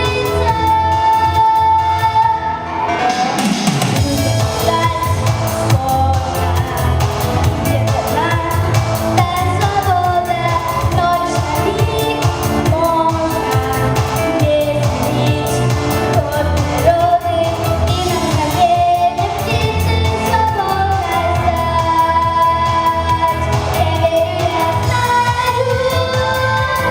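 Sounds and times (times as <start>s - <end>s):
woman singing pop song: 0.0s - 26.9s
heavy low beat: 3.5s - 26.9s.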